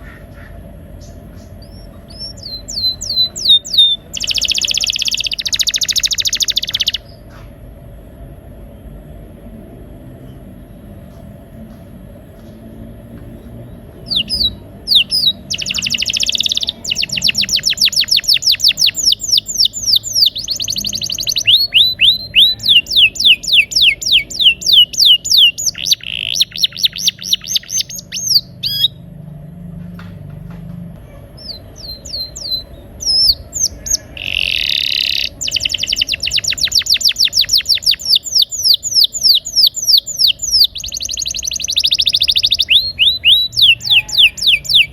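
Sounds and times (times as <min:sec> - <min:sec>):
canary singing trills: 0:00.0 - 0:07.5, 0:13.4 - 0:29.2, 0:31.0 - 0:44.9
steady low hum: 0:00.0 - 0:44.9.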